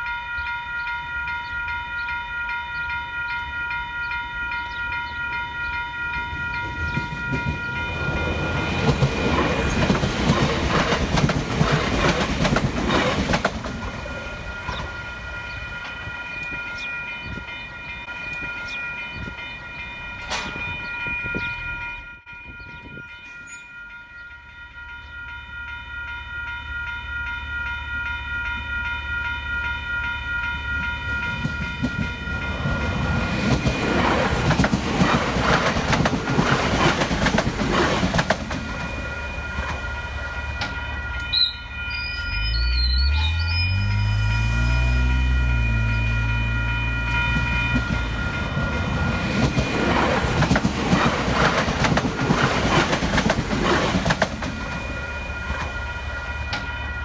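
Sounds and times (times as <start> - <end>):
electric train passing: 0.0 - 57.0
level crossing warning bells: 0.0 - 57.0.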